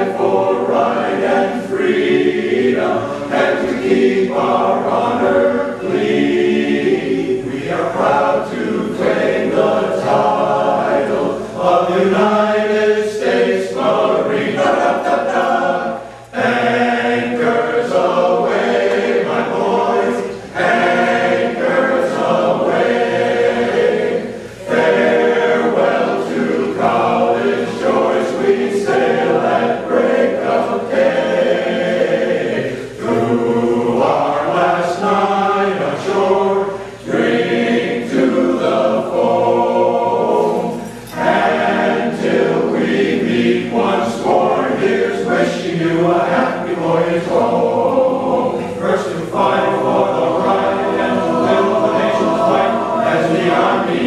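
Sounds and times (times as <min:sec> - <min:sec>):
men's chorus singing a cappella: 0:00.0 - 0:54.0.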